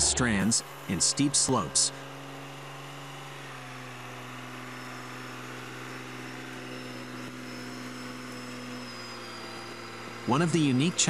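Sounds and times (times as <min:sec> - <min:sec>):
diesel truck engine at low revs: 0:00.0 - 0:11.0.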